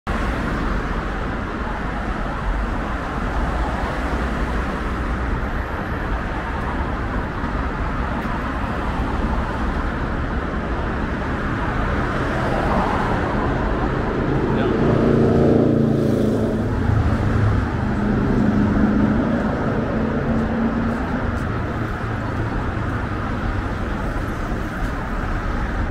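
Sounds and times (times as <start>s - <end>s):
cars driving past: 0.1s - 25.9s.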